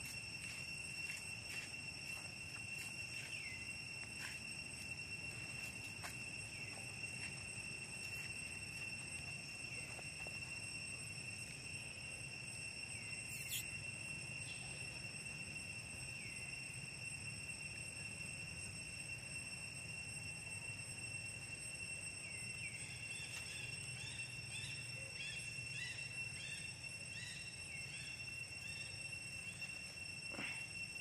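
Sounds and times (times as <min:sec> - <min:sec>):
high drone of insects: 0:00.0 - 0:31.0.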